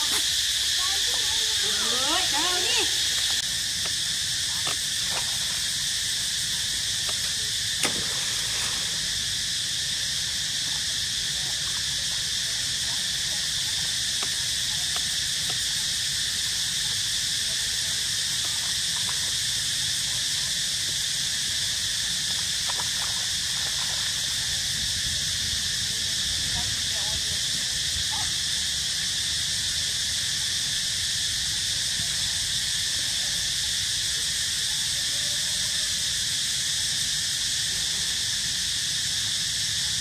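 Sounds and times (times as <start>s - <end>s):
forest insects chorus: 0.0s - 40.0s.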